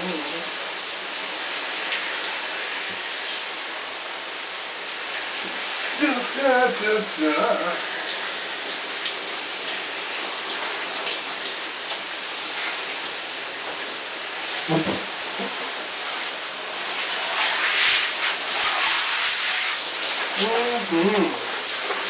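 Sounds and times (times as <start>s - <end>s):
shower spray hissing: 0.0s - 22.0s.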